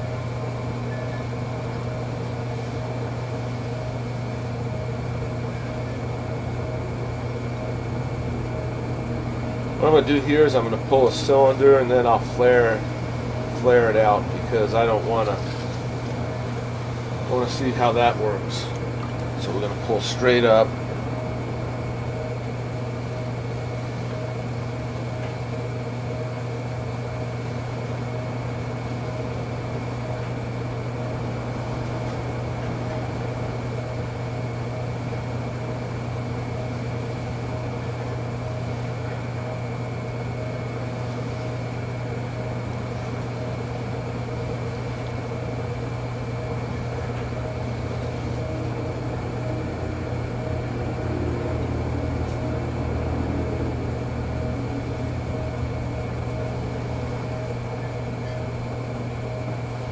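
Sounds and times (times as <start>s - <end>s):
potter's wheel motor humming: 0.0s - 59.9s.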